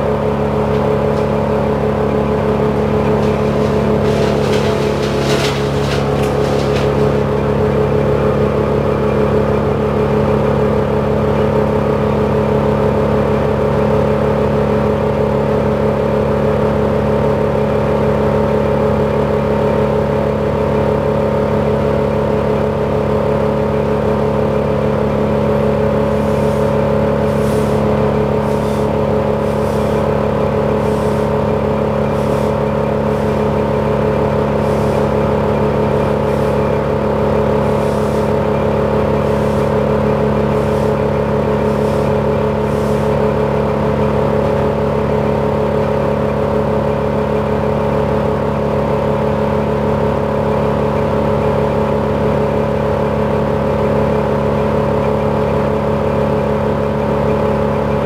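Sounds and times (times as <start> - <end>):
crane engine running: 0.0 - 58.0.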